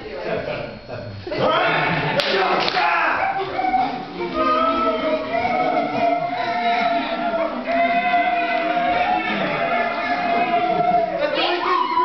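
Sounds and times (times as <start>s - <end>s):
voices singing together: 1.4s - 12.0s.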